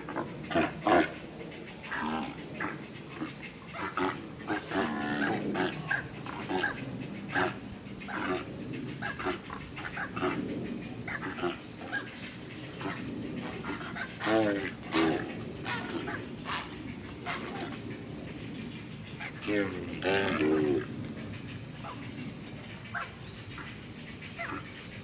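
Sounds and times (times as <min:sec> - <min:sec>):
pelicans rough calls: 0:00.0 - 0:25.0.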